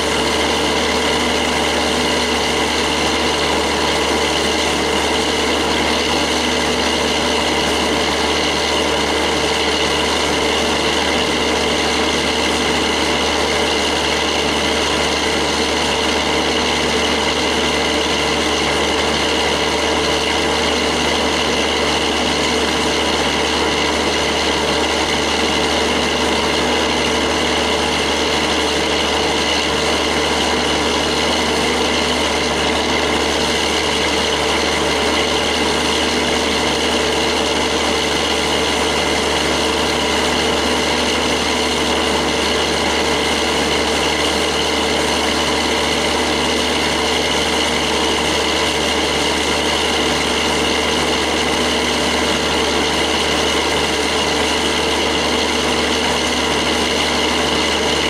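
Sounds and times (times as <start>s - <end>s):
diesel railway engine idling: 0.0s - 58.0s.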